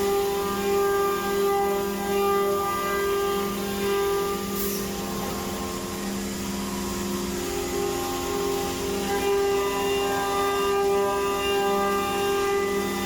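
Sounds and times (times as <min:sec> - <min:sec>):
milling machine cutting metal: 0:00.0 - 0:13.0.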